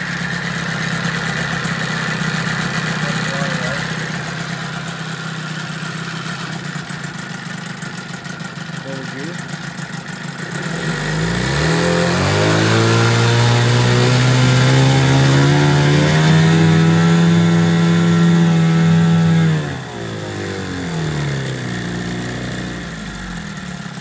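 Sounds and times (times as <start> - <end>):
outboard motor revving: 0.0 - 24.0.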